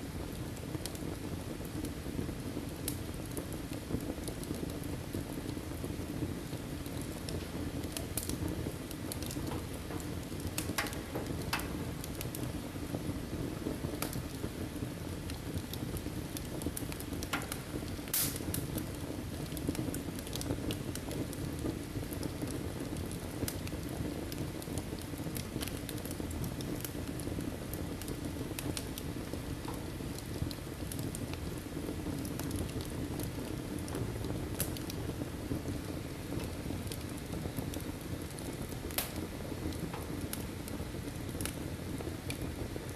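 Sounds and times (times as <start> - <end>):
fire crackling and popping: 0.0 - 42.9
fire rumbling: 0.0 - 42.9.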